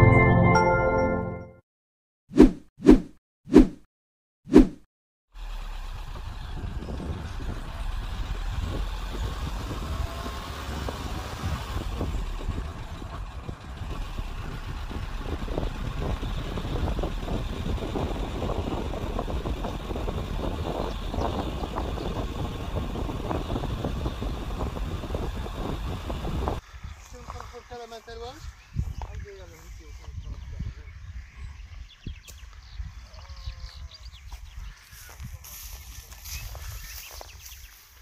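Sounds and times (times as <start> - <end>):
vehicle engine and road rumble: 5.3 - 38.0.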